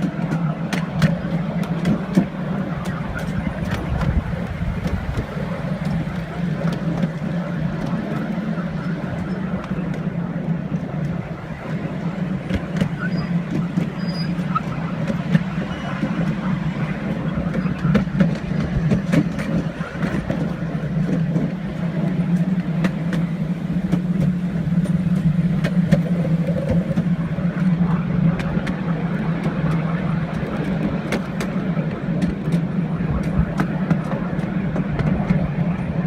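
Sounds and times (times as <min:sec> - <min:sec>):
train engine drone: 0:00.0 - 0:36.0
train running rumble: 0:00.0 - 0:36.0.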